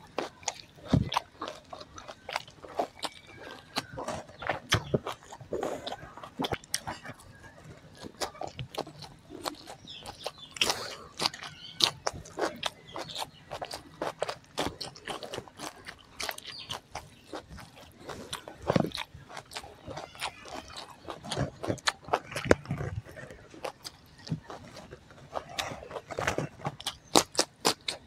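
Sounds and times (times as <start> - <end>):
person chewing: 0.0 - 28.0
wet mouth clicks and smacking: 0.0 - 28.0.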